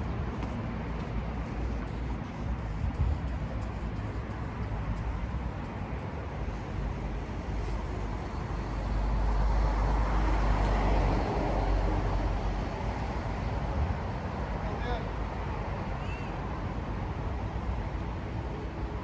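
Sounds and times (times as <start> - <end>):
low outdoor rumble: 0.0 - 15.7.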